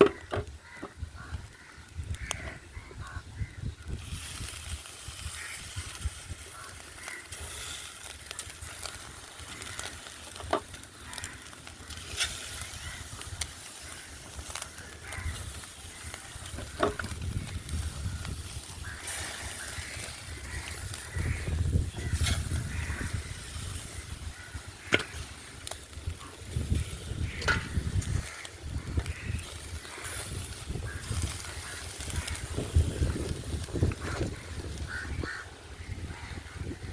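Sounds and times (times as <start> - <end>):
food sizzling in a pot: 3.7 - 35.4.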